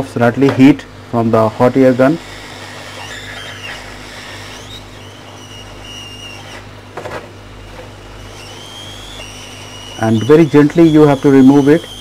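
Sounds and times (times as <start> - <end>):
hot air gun blowing: 1.7 - 12.0.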